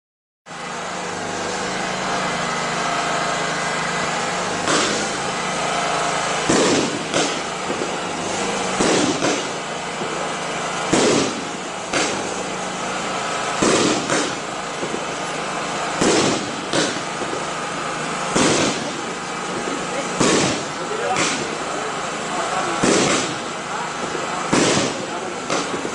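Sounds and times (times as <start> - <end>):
firework bangs: 0.5 - 25.9
steady background noise: 0.5 - 25.9.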